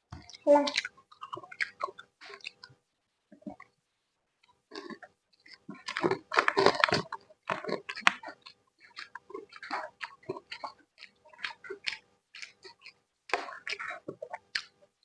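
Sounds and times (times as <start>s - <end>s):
person chewing food: 0.1s - 3.8s, 4.4s - 15.0s.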